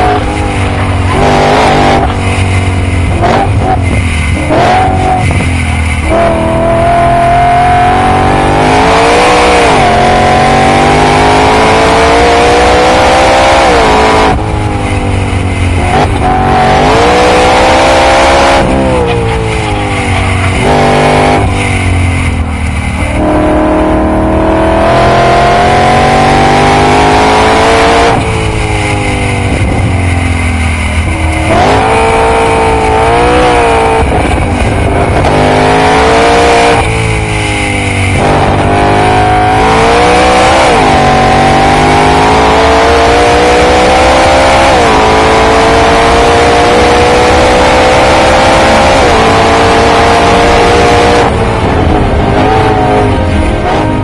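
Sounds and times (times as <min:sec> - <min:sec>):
car engine at full throttle: 0:00.0 - 0:54.0
engine rev blips: 0:00.0 - 0:54.0.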